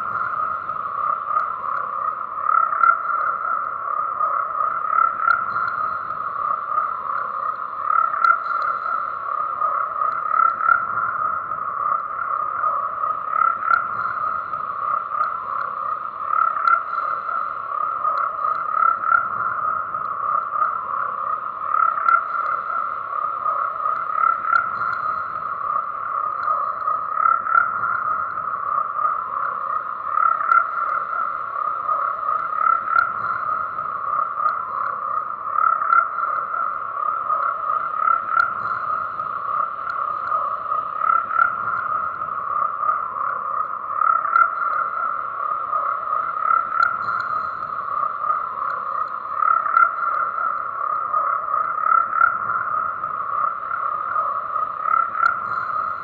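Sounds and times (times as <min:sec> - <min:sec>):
frogs croaking chorus: 0:00.0 - 0:56.0.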